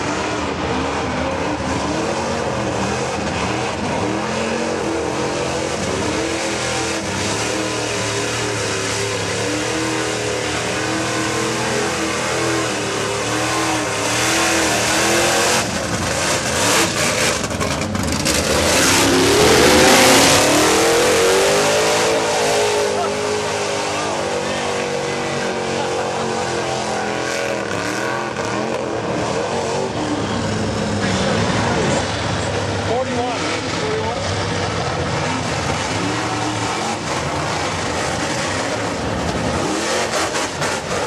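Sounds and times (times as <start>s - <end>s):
truck engine revving hard: 0.0s - 41.0s.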